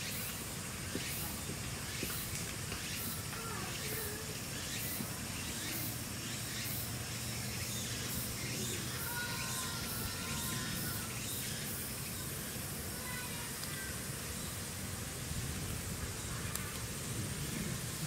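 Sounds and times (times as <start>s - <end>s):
steady hiss: 0.0s - 18.0s
faint distant voices: 3.0s - 17.9s.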